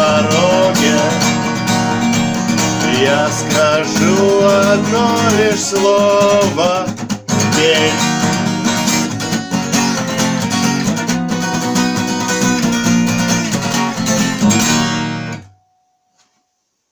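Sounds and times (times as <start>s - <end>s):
acoustic guitar strumming: 0.0s - 16.5s.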